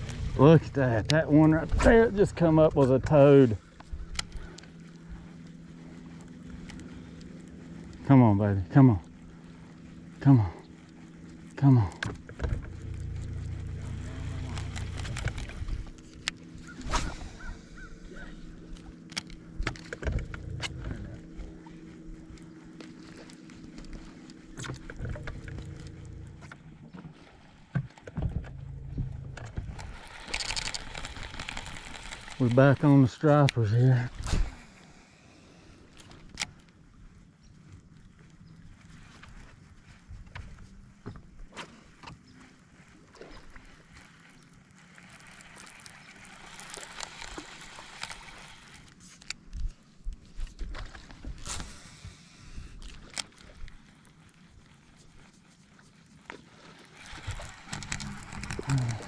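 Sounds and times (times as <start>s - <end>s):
boat low rumble: 0.0s - 59.0s.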